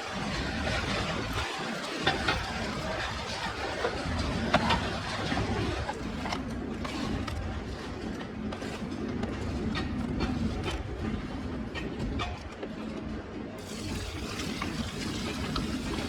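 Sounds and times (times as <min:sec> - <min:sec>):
steady noisy background: 0:00.0 - 0:16.0.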